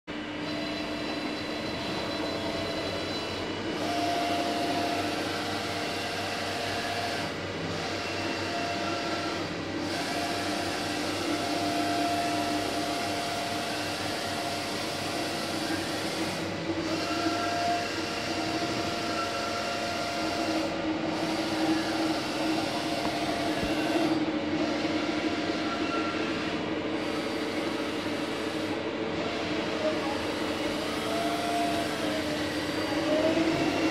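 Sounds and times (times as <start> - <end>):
milling machine hum: 0.1 - 33.9
whining motor tones: 0.2 - 33.9.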